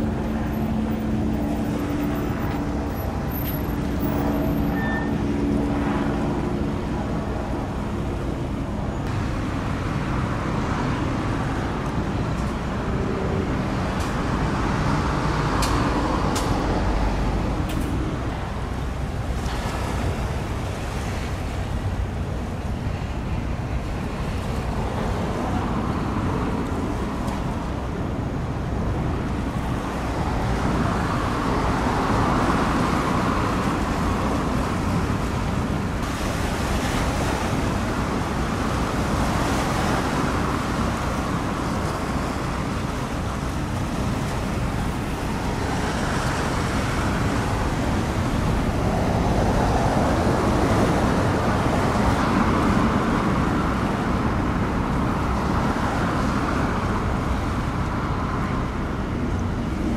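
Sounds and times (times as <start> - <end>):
road traffic rushing: 0.0 - 59.9.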